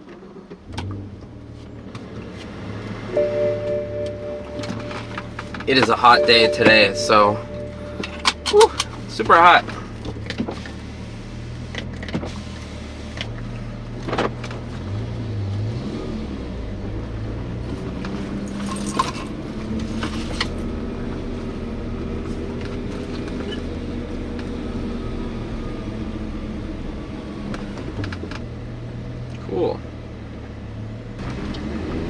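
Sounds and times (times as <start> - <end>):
car engine idling: 0.4 - 15.6, 16.3 - 31.6.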